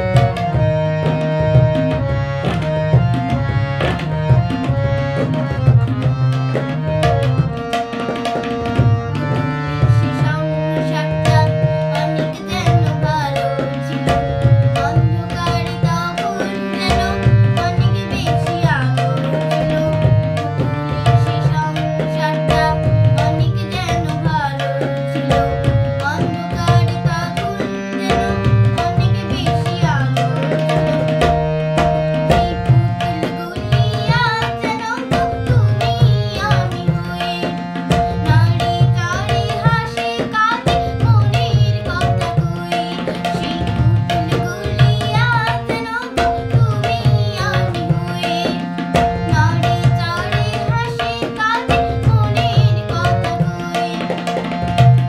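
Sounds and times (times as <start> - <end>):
girl singing: 0.0 - 55.0
harmonium reed tones: 0.0 - 55.0
tabla rhythm: 0.0 - 55.0.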